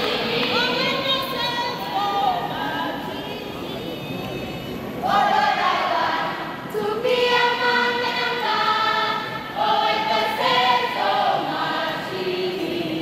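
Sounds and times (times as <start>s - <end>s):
young voices singing a hymn: 0.0s - 3.8s, 5.0s - 13.0s.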